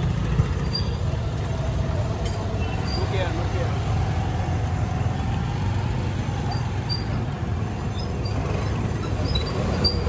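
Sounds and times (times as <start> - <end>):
motorcycle engines rumbling: 0.0 - 10.0.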